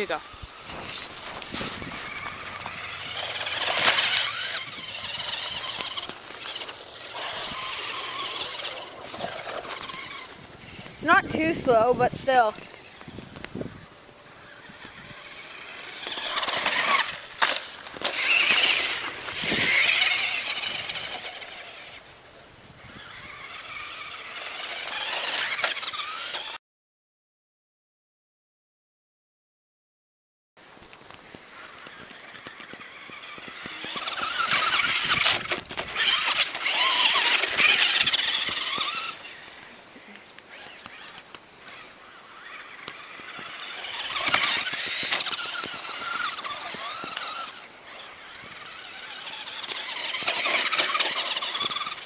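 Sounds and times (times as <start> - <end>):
electric motor whining: 0.0 - 26.6, 31.3 - 52.0.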